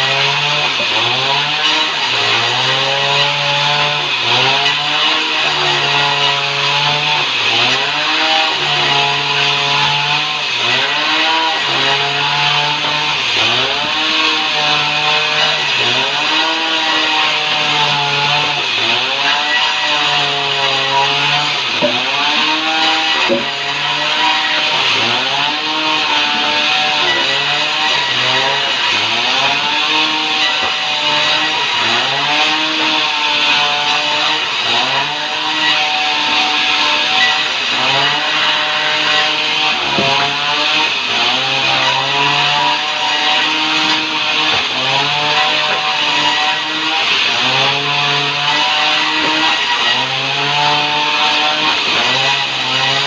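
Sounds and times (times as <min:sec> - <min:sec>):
sawmill machine hum: 0:00.0 - 0:53.0.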